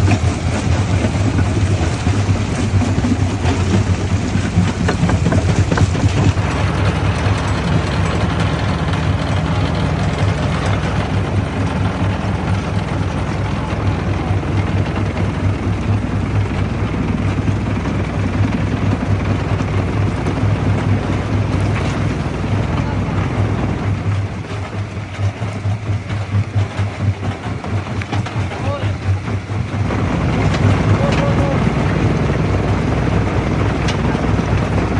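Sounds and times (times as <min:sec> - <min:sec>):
jaw crusher rumbling: 0:00.0 - 0:34.9.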